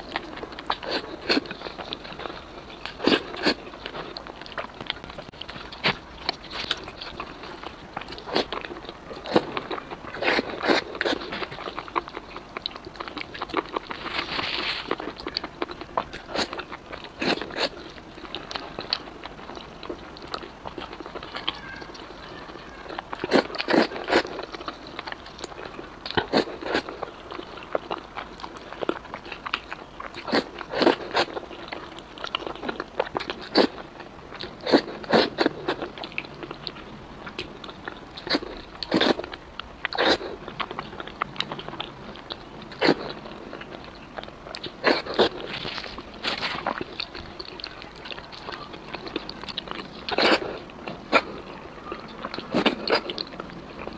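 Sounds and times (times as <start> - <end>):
chewing: 0.0 - 53.9.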